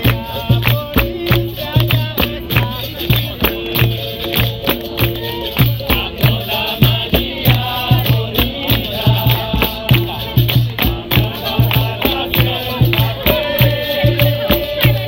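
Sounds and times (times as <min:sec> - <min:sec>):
berimbau: 0:00.0 - 0:15.0
hand drum: 0:00.0 - 0:15.0
pandeiro: 0:00.0 - 0:15.0
voices singing: 0:00.0 - 0:15.0.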